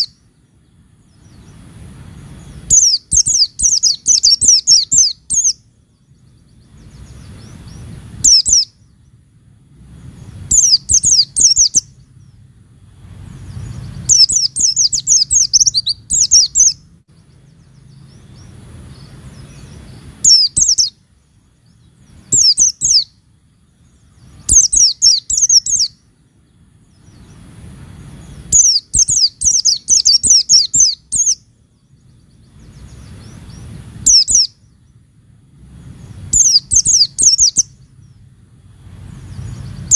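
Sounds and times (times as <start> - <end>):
bird chirping: 0.0 - 39.9
low background rumble: 0.0 - 39.9.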